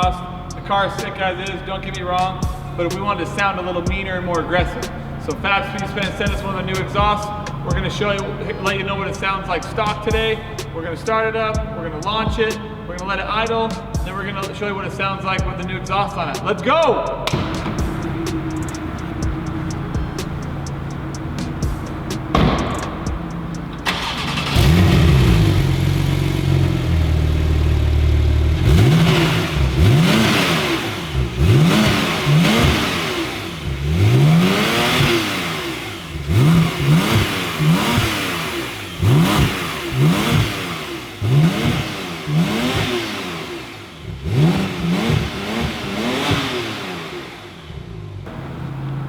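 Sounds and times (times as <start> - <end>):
car engine starting and idling: 0.0 - 49.0
engine revving: 0.0 - 49.0.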